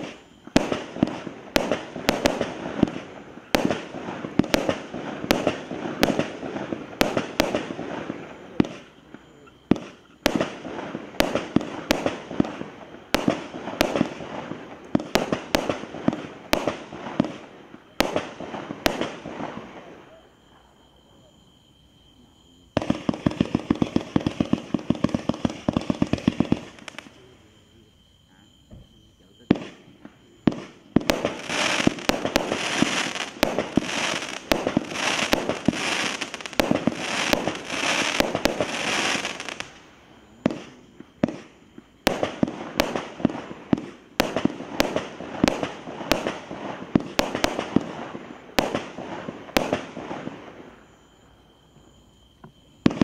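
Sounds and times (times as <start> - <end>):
firework shots and bursts: 0.0 - 20.2, 22.7 - 27.6, 28.7 - 50.8, 52.8 - 53.0.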